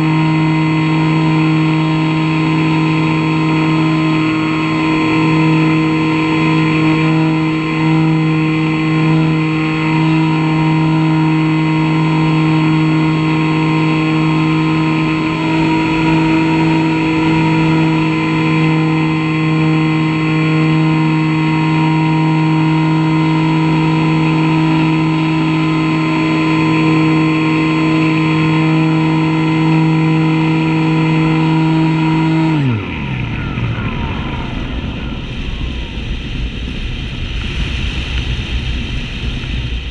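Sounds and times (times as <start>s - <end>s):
model airplane motor humming: 0.0s - 35.1s.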